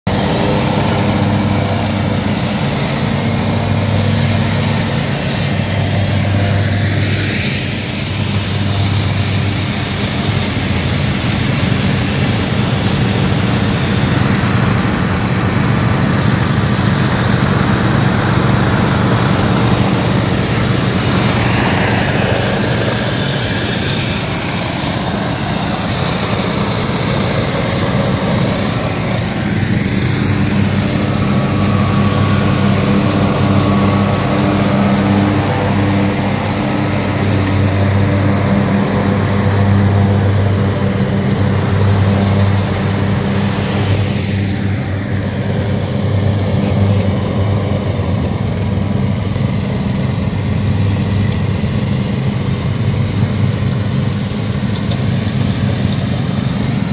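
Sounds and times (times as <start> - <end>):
lawn tractors mowing: 0.0 - 56.9
whine sweeping in pitch: 0.1 - 51.6.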